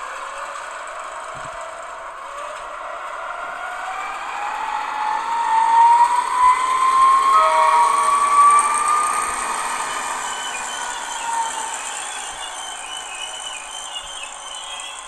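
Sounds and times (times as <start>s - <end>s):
model locomotive motor whine: 0.0s - 15.0s.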